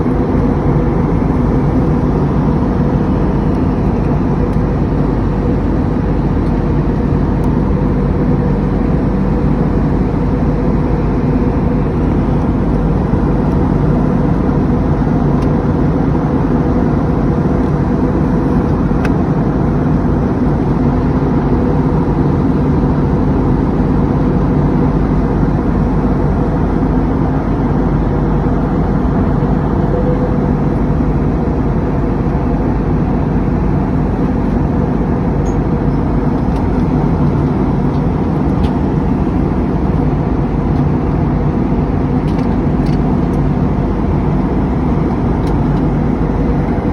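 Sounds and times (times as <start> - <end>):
airliner cabin engine and airflow noise: 0.0 - 46.9
low steady hum: 0.0 - 46.9.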